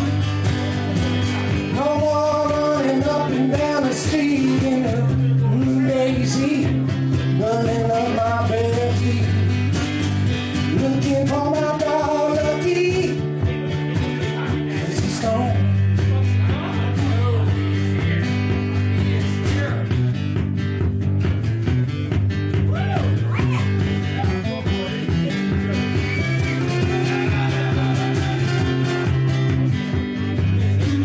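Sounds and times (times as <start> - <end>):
bending guitar melody: 0.0 - 31.0
held bass notes: 0.0 - 31.0.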